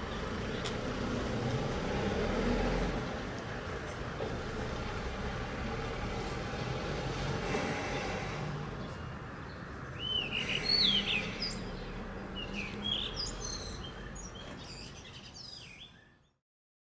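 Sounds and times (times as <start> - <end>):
birds chirping: 0.0 - 16.4.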